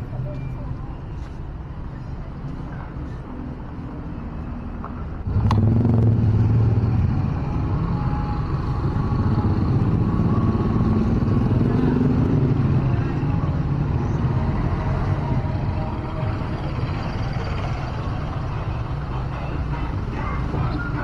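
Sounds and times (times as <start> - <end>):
traffic engines droning: 0.0 - 21.0.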